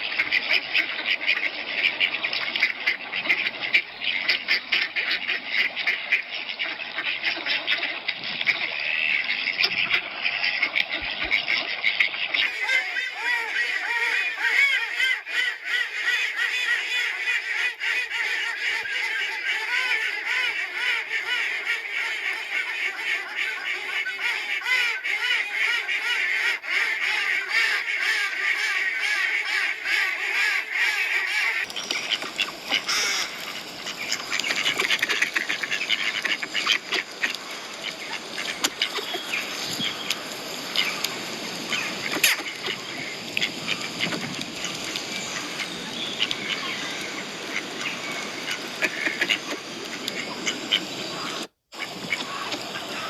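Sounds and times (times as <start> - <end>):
ducks quacking: 0.0 - 53.0
geese honking: 0.0 - 53.0.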